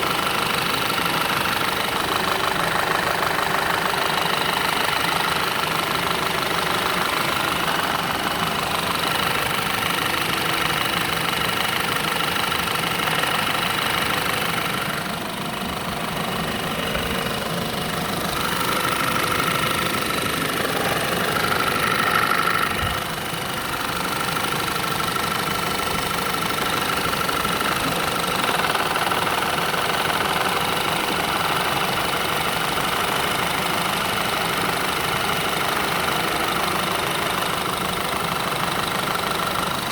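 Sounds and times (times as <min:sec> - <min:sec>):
fast engine knocking: 0:00.0 - 0:39.9
petrol engine running: 0:00.0 - 0:39.9.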